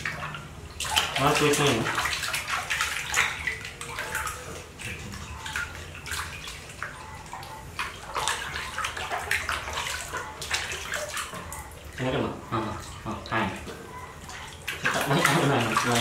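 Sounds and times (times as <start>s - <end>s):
water splashing in a plastic basin: 0.0s - 16.0s.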